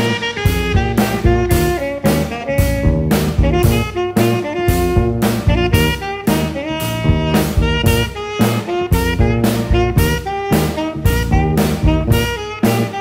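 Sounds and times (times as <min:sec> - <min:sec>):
drum kit steady beat: 0:00.0 - 0:13.0
jazz big band playing: 0:00.0 - 0:13.0
saxophone solo: 0:00.0 - 0:13.0.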